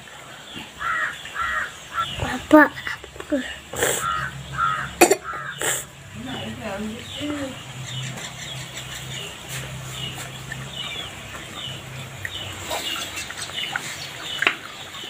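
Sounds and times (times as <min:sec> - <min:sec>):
small birds chirping: 0:00.0 - 0:15.0
chickens clucking: 0:00.5 - 0:15.0.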